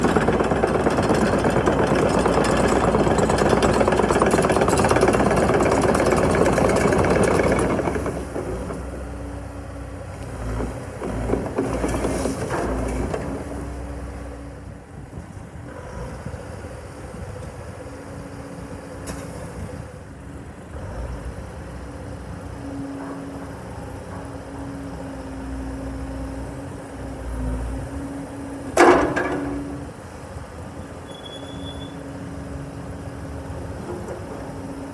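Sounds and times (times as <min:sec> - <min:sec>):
excavator running: 0:00.0 - 0:18.1, 0:18.9 - 0:34.9.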